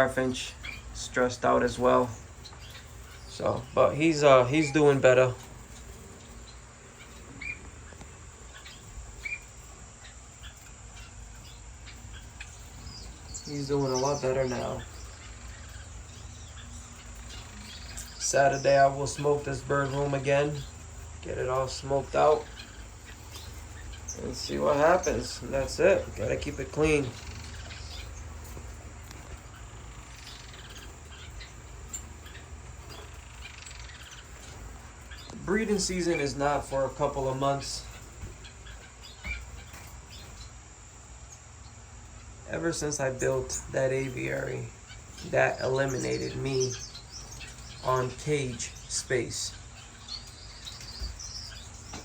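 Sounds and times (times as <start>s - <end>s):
finches chirping: 0.0s - 52.0s
steady low hum: 0.0s - 52.0s.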